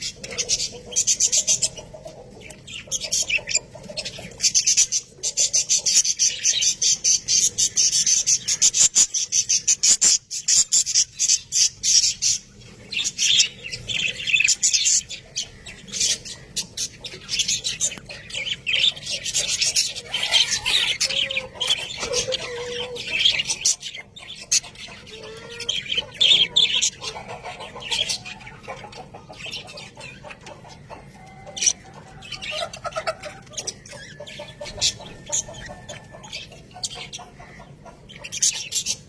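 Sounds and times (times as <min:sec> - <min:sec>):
budgerigars chattering: 0:00.0 - 0:39.0.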